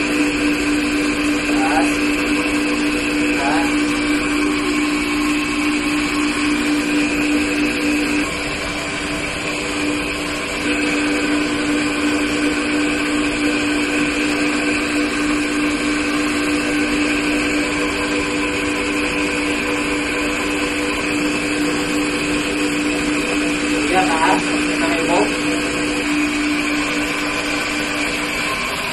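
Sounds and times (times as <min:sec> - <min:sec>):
machine hum with low drone: 0:00.0 - 0:28.9.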